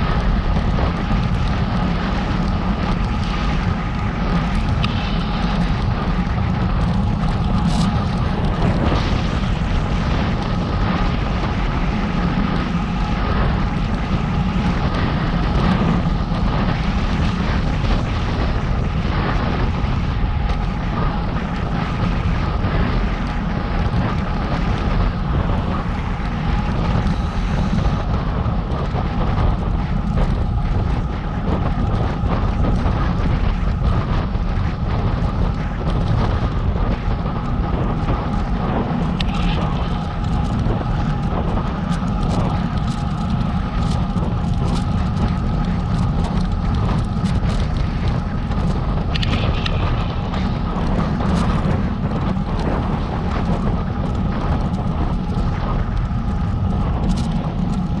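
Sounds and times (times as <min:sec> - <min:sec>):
faint steady whining tones: 0:00.0 - 0:58.0
road noise: 0:00.0 - 0:58.0
wind buffeting microphone: 0:00.0 - 0:58.0.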